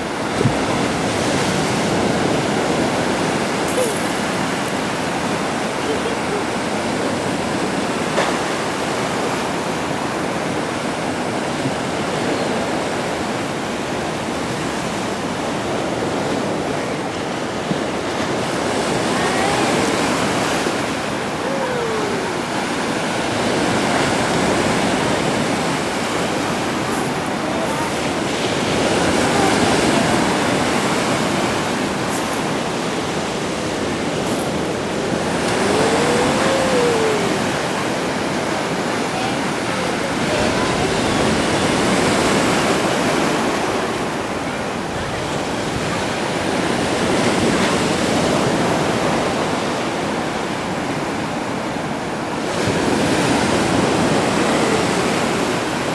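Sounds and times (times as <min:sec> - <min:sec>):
surf washing onto shore: 0:00.0 - 0:55.9.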